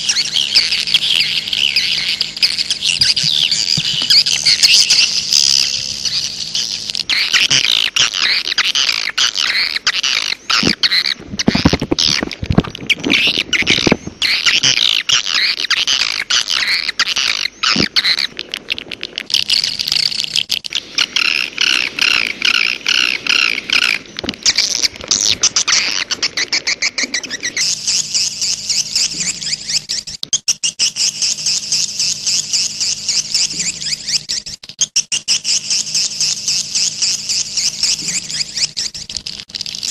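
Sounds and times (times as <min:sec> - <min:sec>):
swiftlets twittering: 0:00.0 - 0:39.9.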